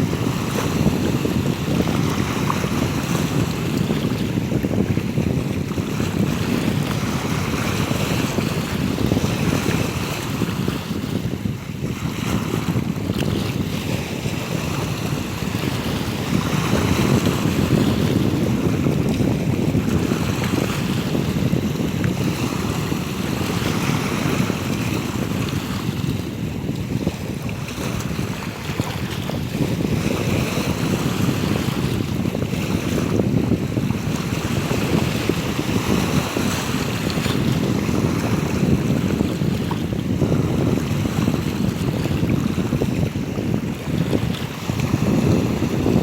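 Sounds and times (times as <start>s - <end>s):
sea waves washing in: 0.0s - 46.0s
wind rumbling on microphone: 0.0s - 46.0s.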